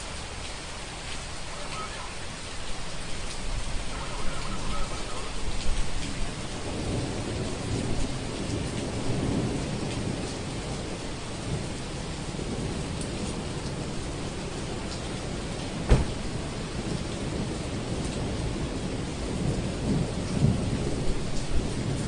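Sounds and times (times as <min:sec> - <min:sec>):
rain hissing: 0:00.0 - 0:22.0
thunder rumbling: 0:03.0 - 0:22.0.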